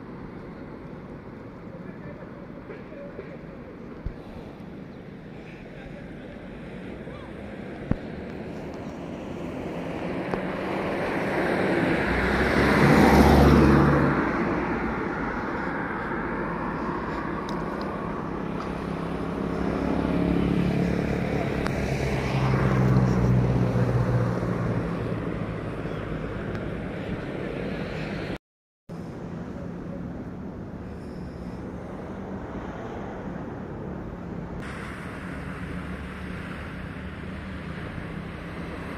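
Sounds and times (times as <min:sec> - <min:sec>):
vehicles passing: 0:00.0 - 0:38.9.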